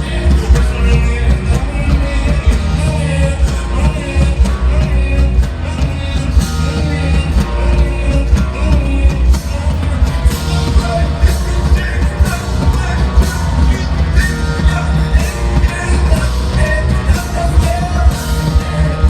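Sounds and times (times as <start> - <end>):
live concert music with heavy bass: 0.0 - 19.0
person singing: 0.0 - 19.0.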